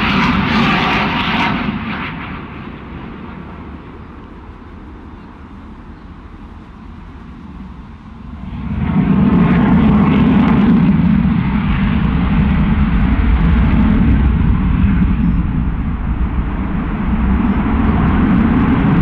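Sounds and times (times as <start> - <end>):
loud jet engine roar: 0.0 - 19.0.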